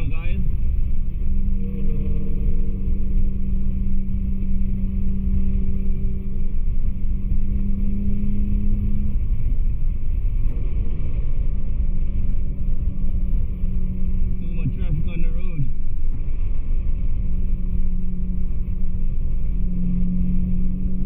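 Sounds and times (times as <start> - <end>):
car engine drone: 0.0 - 21.0
road and tyre rumble: 0.0 - 21.0.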